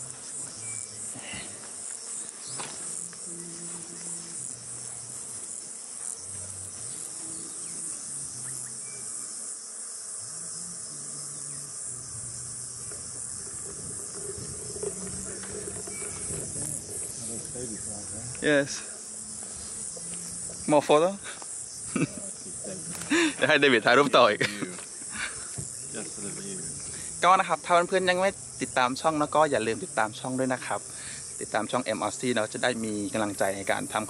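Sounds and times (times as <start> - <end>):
faint low buzzes: 0.0 - 34.0
insects chorus: 0.0 - 34.0.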